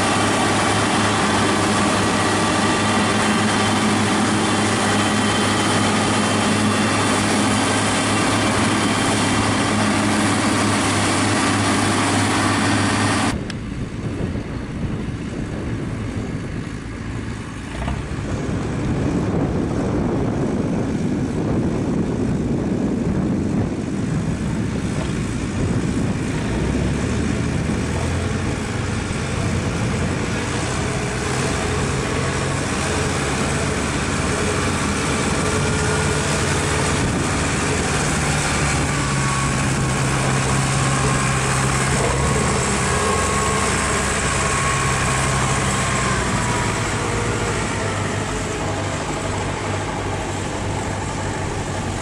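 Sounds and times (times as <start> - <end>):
harvester engine drone: 0.0 - 52.0
tractor pulling trailer: 0.0 - 52.0.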